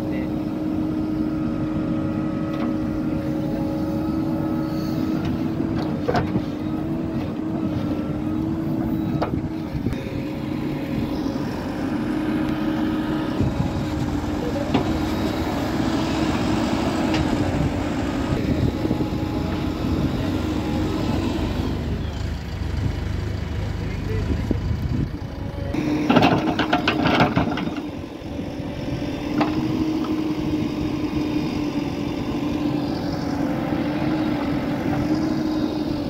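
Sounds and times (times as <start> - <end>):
diesel engine under load: 0.0 - 36.0.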